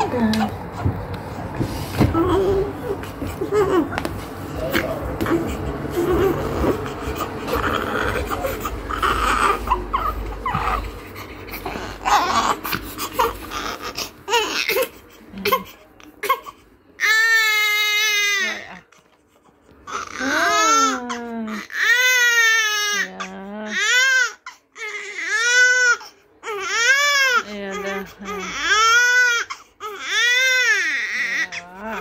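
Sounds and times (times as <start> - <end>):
newborn baby crying: 0.0 - 1.1, 2.1 - 19.0, 19.8 - 32.0.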